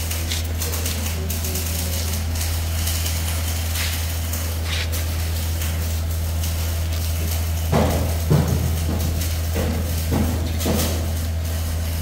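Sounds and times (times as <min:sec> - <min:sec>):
grinding machine motor humming: 0:00.0 - 0:12.0.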